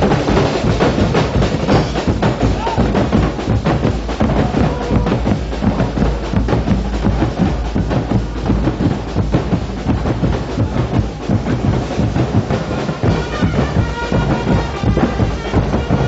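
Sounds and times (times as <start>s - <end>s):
marching bass drums beating: 0.0s - 16.0s.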